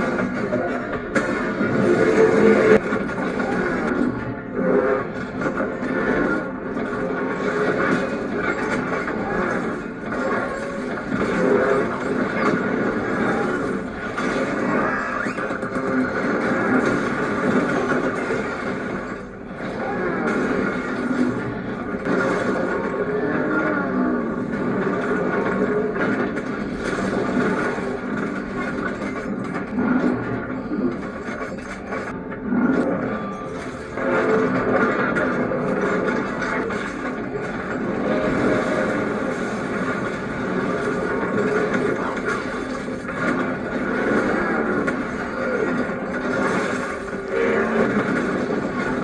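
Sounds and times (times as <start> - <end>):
dense continuous rumbling: 0.0 - 49.0.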